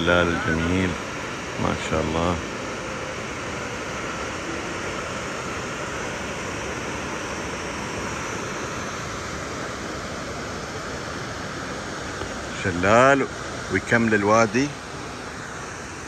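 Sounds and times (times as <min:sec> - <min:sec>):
waterfall roar: 0:00.0 - 0:16.0.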